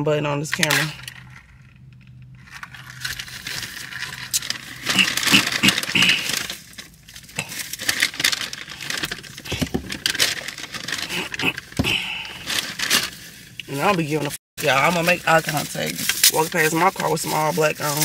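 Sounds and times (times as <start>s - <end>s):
paper bag rustling and crinkling: 2.3s - 18.0s.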